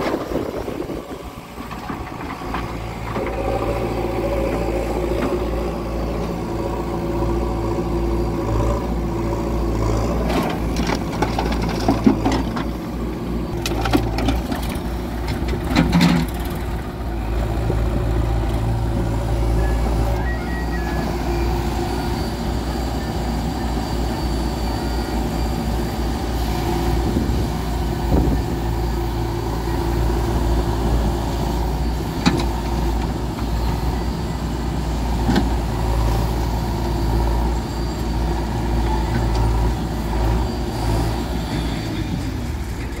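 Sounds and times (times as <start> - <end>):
heavy diesel engine rumbling: 0.0 - 43.0.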